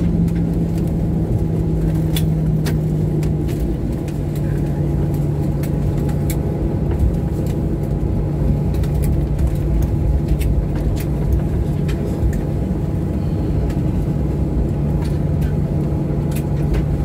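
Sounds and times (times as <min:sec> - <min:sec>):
low rumble of aircraft engines: 0:00.0 - 0:17.0.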